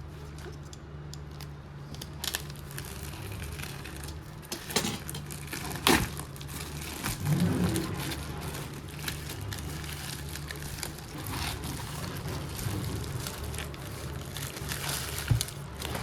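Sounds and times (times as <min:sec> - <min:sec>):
packaging crinkling and rustling: 0:00.0 - 0:16.0
packaging scrapes: 0:01.9 - 0:16.0.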